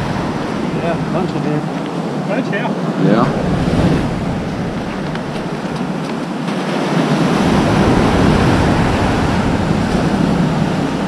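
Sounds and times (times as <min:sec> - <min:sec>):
surf washing up beach: 0:00.0 - 0:11.0.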